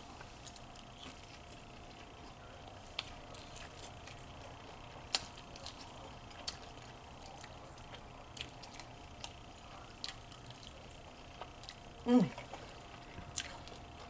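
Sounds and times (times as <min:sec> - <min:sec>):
faint steady hum: 0:00.0 - 0:14.0
person chewing wetly: 0:00.0 - 0:14.0.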